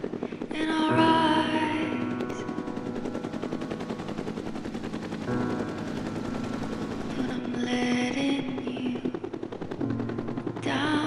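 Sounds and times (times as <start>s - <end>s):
faint music: 0.0s - 11.0s
helicopter rotor chop: 0.0s - 11.0s.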